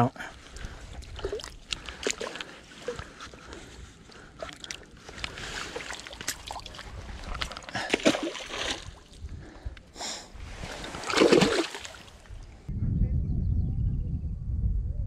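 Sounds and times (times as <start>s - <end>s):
water splashing and sloshing: 0.2s - 12.7s.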